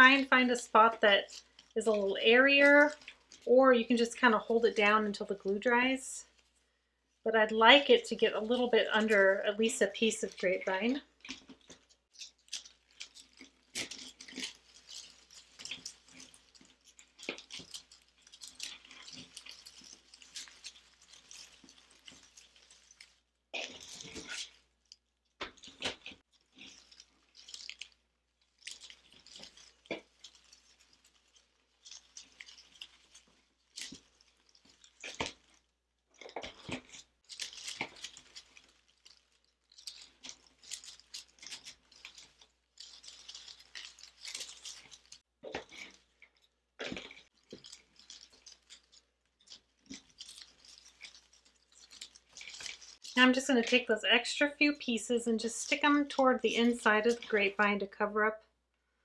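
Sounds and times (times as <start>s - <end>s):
artificial foliage rustling: 0.0s - 58.0s.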